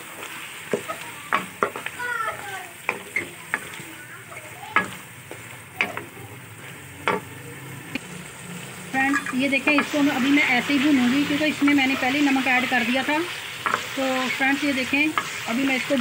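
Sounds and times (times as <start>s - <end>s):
wooden spoon scraping a pan: 0.0s - 7.4s, 9.0s - 16.0s
meat sizzling in hot oil: 0.0s - 16.0s.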